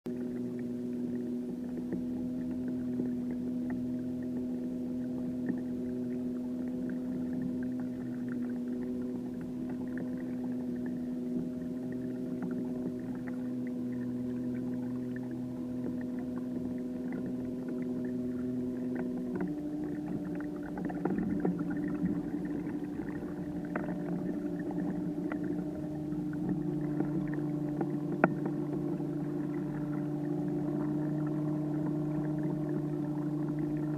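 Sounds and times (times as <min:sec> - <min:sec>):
electric motor humming: 0:00.1 - 0:33.9.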